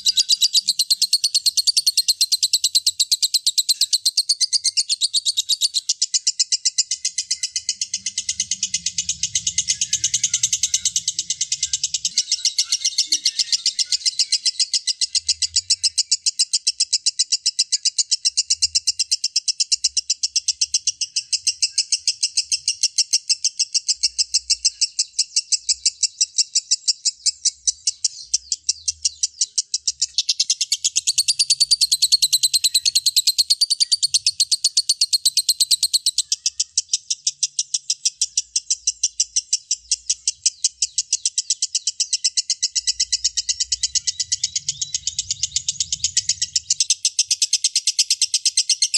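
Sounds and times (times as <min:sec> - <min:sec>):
lovebird chattering trill: 0:00.0 - 0:48.9.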